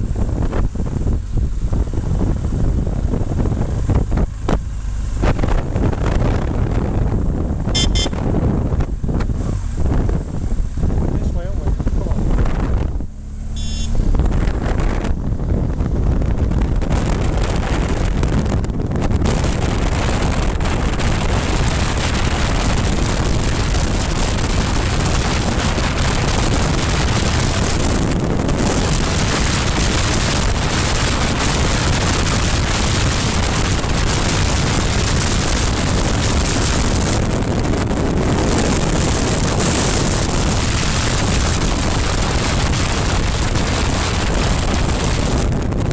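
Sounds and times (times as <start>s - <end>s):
motorcycle engine: 0.0s - 45.9s
wind rushing over microphone: 0.0s - 45.9s.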